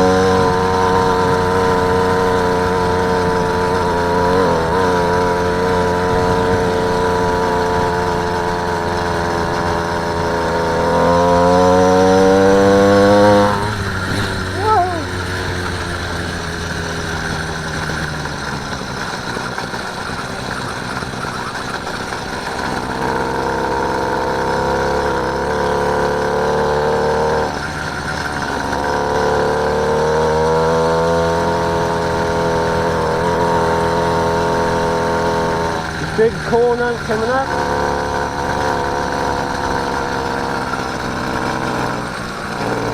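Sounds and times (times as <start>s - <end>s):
motorbike engine running: 0.0s - 42.9s.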